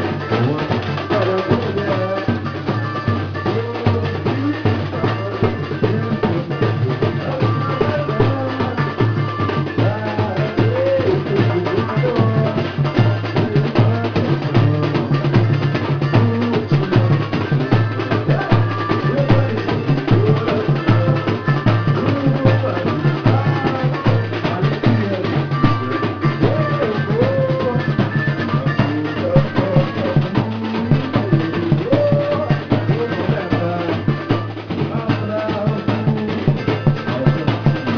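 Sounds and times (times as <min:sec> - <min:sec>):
drum-led percussion music: 0:00.0 - 0:37.9.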